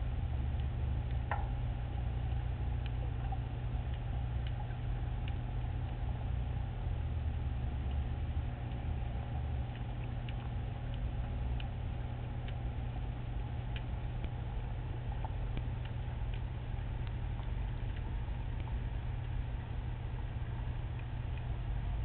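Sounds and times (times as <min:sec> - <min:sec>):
faint ticks and clicks: 0:00.0 - 0:22.0
underwater low rumble: 0:00.0 - 0:22.0.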